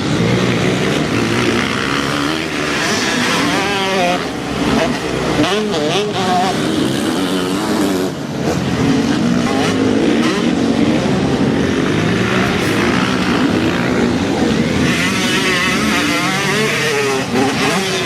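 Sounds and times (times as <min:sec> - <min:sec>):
motocross engines revving: 0:00.0 - 0:18.0.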